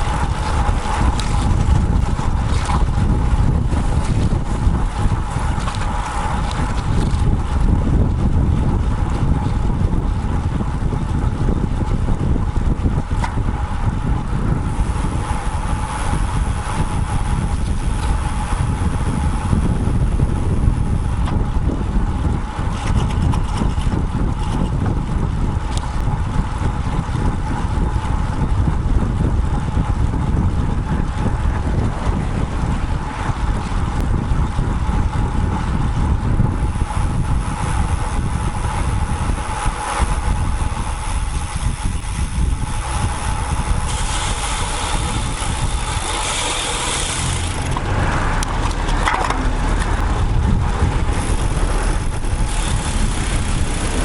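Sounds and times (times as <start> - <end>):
passing traffic: 0.0 - 54.0
road noise: 0.0 - 54.0
wind buffeting microphone: 0.0 - 54.0.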